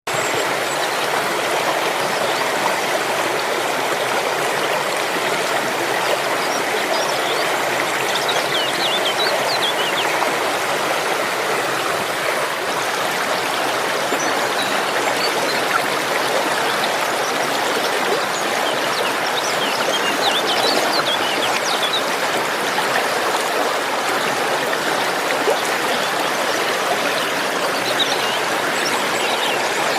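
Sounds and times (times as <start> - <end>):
water flowing: 0.1 - 29.9.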